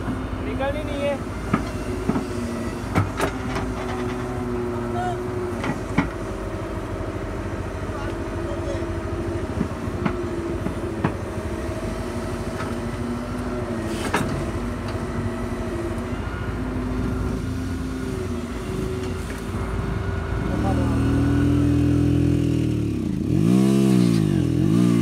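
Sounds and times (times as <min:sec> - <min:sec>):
excavator diesel engine running: 0:00.0 - 0:23.4.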